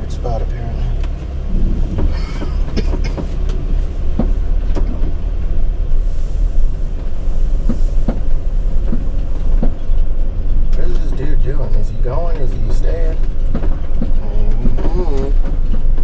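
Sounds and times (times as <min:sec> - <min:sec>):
road noise rumble inside van: 0:00.0 - 0:16.0.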